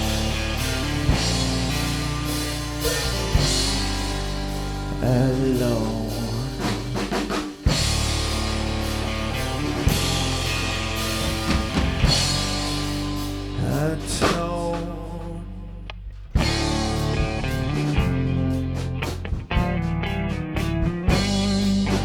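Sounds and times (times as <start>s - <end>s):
instrumental rock music: 0.0s - 22.0s.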